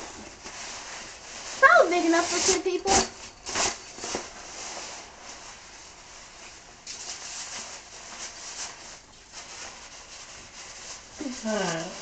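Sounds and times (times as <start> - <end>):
fabric rubbing: 0.0 - 12.0
plastic wrapping crinkling: 0.0 - 12.0.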